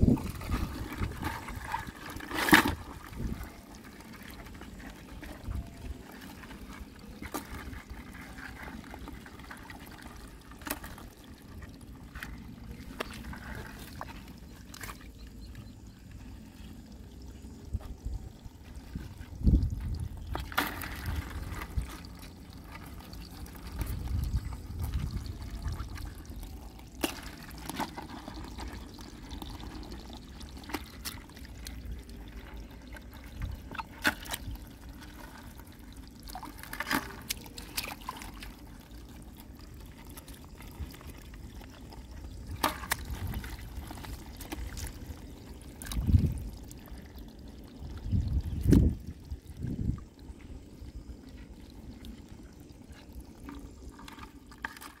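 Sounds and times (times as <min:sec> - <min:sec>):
water trickling and dripping: 0:00.0 - 0:55.0.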